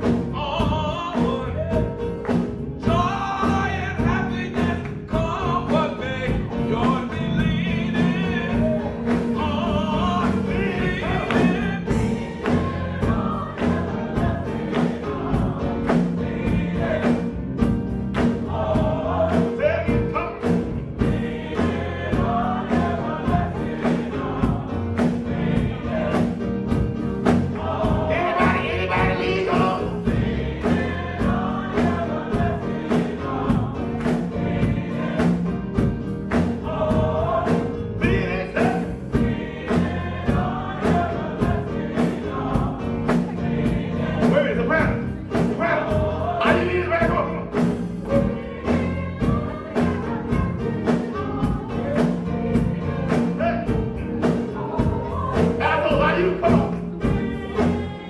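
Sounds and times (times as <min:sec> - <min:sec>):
drum kit beat: 0:00.0 - 0:58.0
gospel choir singing: 0:00.0 - 0:58.0
keyboard: 0:00.0 - 0:58.0.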